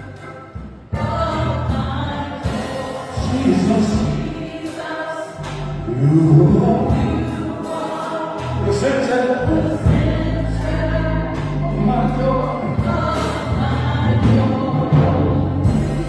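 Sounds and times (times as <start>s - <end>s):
choir singing gospel song: 0.0s - 16.0s
low held accompaniment notes: 0.0s - 16.0s.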